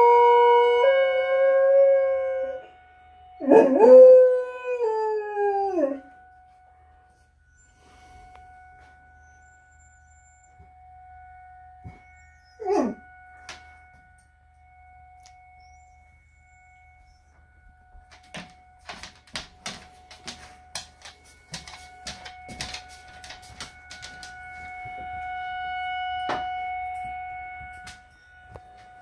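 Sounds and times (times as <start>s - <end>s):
warning siren: 0.0s - 29.0s.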